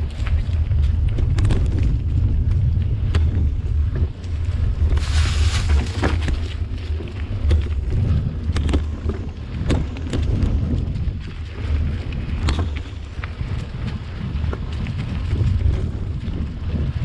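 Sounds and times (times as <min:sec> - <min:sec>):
bike clicks and rattles: 0:00.0 - 0:17.0
low rumble: 0:00.0 - 0:17.0
wind buffeting microphone: 0:00.0 - 0:17.0.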